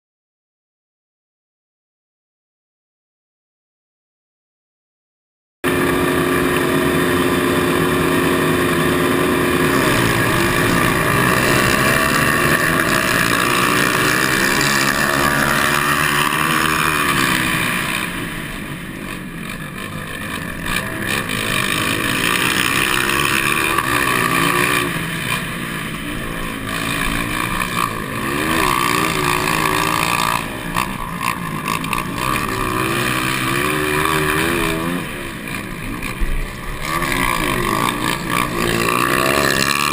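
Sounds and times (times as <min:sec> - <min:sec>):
motocross bike engines revving: 0:05.6 - 0:39.9.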